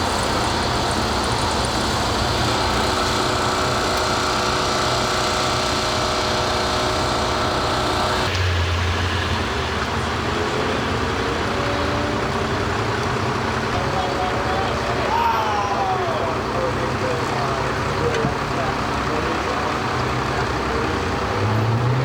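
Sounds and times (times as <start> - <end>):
deep engine hum: 0.0 - 22.0
traffic noise: 0.0 - 22.0.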